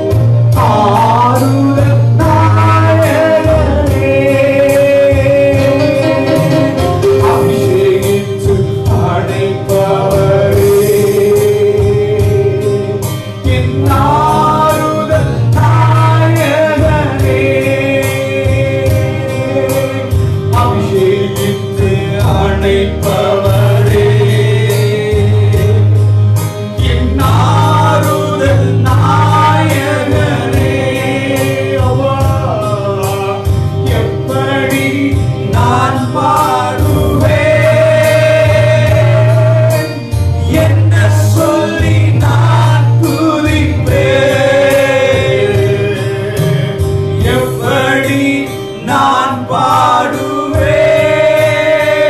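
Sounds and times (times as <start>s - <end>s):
electronic keyboard accompaniment: 0.0s - 52.0s
man singing into a microphone: 0.0s - 52.0s.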